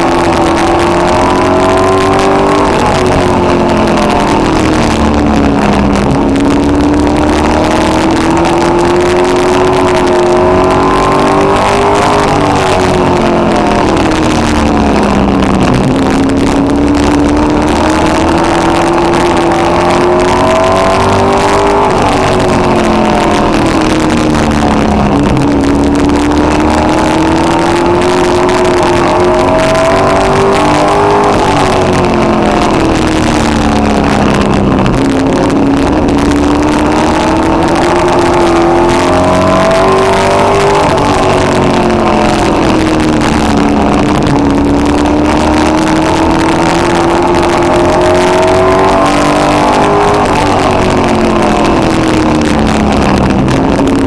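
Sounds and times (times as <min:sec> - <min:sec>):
race car engine: 0:00.0 - 0:54.0
wind noise: 0:00.0 - 0:54.0.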